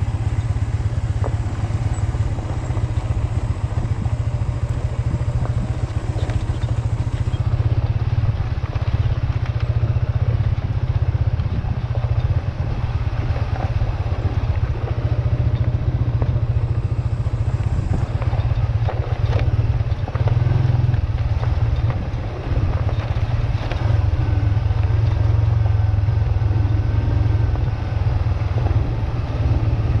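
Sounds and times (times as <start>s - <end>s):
vehicle driving on road: 0.0s - 30.0s
wind rumble on microphone: 0.0s - 30.0s.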